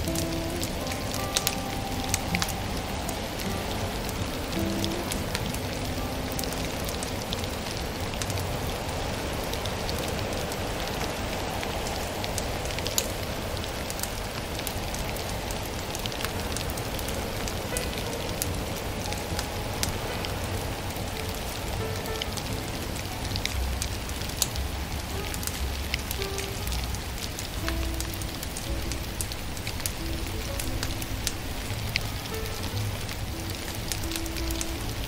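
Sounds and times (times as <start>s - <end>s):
steady hiss: 0.0s - 35.0s
wood fire crackling: 0.0s - 35.0s.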